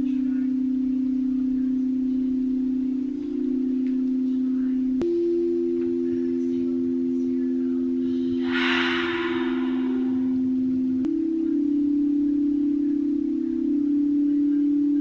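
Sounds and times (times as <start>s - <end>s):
bell-like drone tones: 0.0s - 15.0s.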